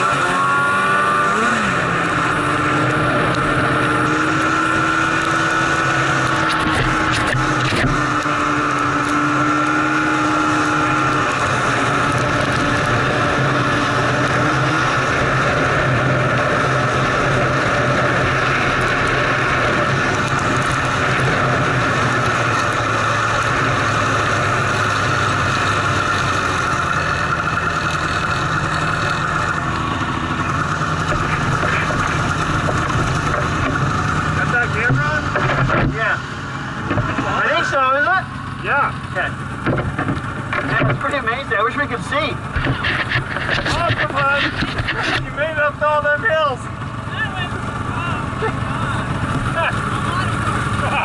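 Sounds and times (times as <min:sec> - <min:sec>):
snowmobile engine running: 0:00.0 - 0:51.0.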